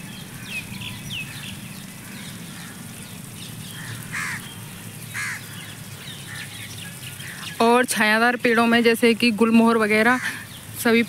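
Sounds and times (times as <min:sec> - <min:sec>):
birds calling: 0:00.0 - 0:11.0
low background noise: 0:00.0 - 0:11.0.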